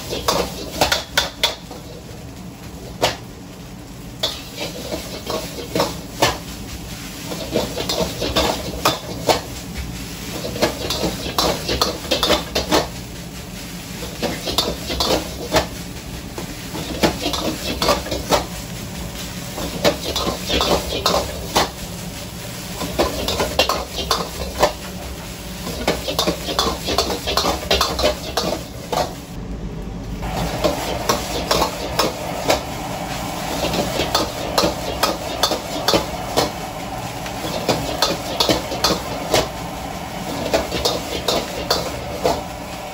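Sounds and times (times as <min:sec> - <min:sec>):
rice sizzling: 0:00.0 - 0:29.4, 0:30.2 - 0:42.9
gas burner rush: 0:00.0 - 0:42.9.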